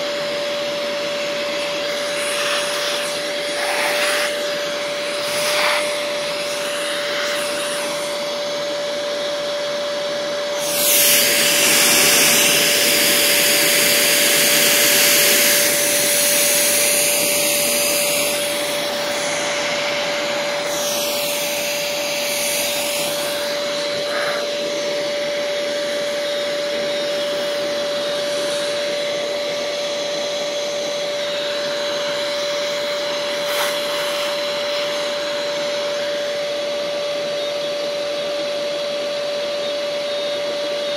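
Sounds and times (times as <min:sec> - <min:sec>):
shop vacuum sucking sand: 0:00.0 - 0:38.1.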